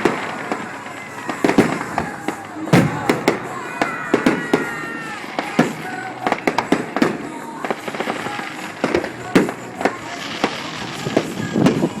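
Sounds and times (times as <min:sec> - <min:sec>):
fireworks bangs and pops: 0:00.0 - 0:12.0
fireworks crackling: 0:00.0 - 0:12.0.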